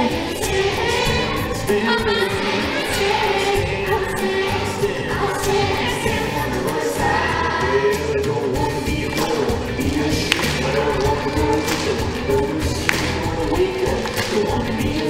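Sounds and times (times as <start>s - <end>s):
group singing worship song: 0.0s - 15.0s.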